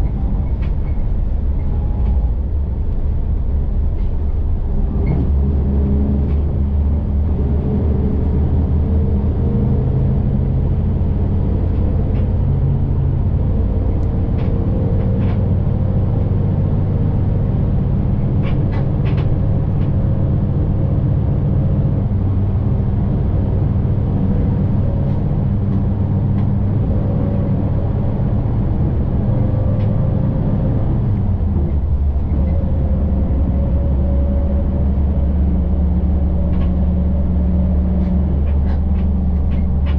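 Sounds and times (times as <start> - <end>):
bus engine drone: 0.0 - 39.9
road and tyre noise: 0.0 - 39.9.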